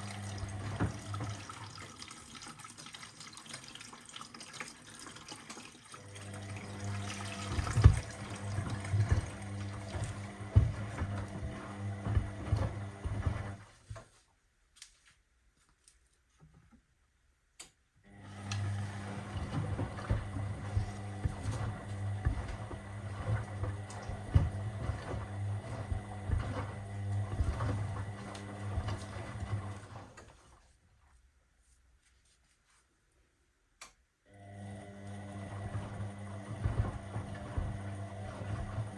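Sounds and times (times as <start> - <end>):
washing machine motor hum: 0.0 - 14.0, 18.0 - 30.6, 34.2 - 38.9.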